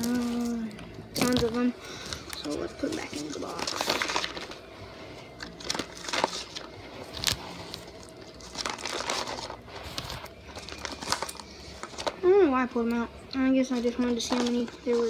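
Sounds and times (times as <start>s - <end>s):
paper and cardboard rustling: 0.0s - 12.3s, 13.6s - 15.0s.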